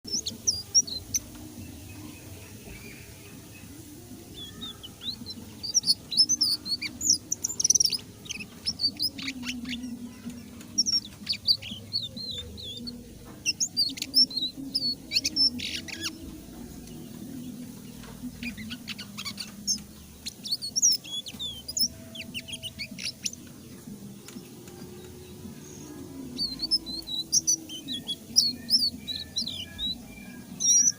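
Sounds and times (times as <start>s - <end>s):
bird singing rapid chirps: 0.0s - 30.9s.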